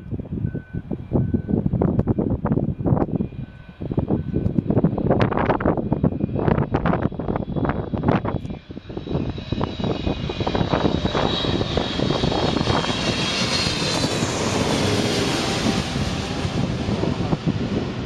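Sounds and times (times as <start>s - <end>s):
jet engines rumbling and whining: 0.0s - 18.0s.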